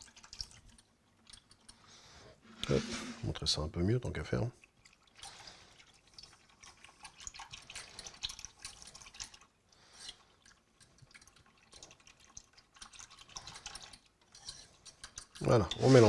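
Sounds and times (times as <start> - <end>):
thick sauce being stirred: 0.0 - 16.0.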